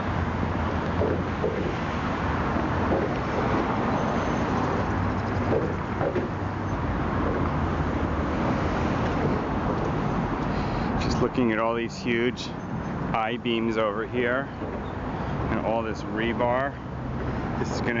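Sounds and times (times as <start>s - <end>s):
freeway traffic noise: 0.0s - 18.0s.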